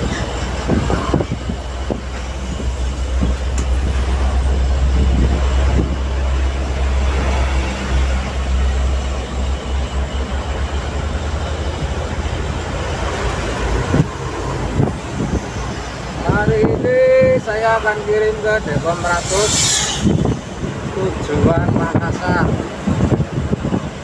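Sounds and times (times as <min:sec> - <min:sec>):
road and wind noise: 0:00.0 - 0:24.0
truck engine drone: 0:00.0 - 0:24.0.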